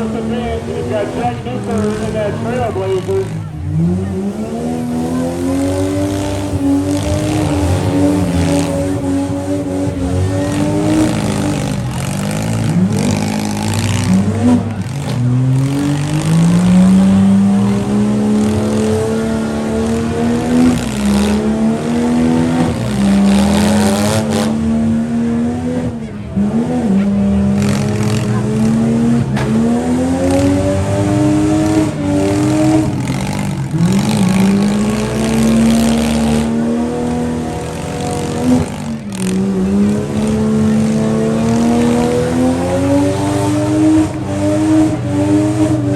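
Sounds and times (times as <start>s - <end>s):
engines revving hard: 0.0s - 45.9s.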